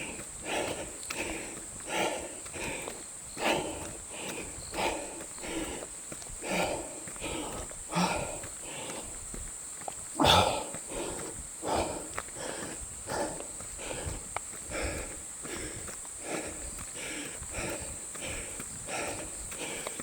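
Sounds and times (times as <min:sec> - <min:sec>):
footsteps: 0:00.0 - 0:20.0
person panting: 0:00.0 - 0:20.0.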